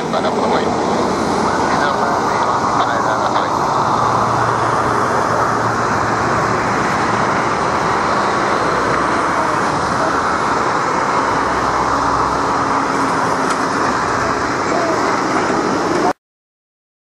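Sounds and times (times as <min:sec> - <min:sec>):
jet engines roaring on landing: 0:00.0 - 0:16.2.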